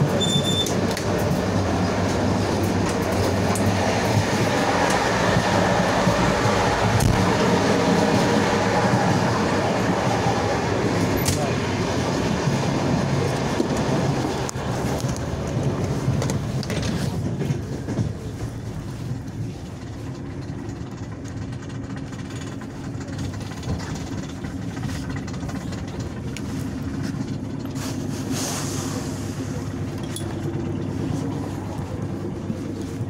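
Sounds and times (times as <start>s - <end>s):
train rumble and hum: 0.0s - 33.0s.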